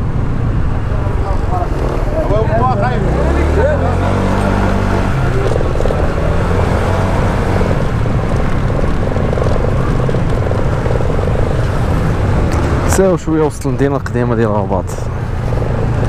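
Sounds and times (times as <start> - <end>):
scooter engine drone: 0.0 - 13.8, 14.7 - 16.0.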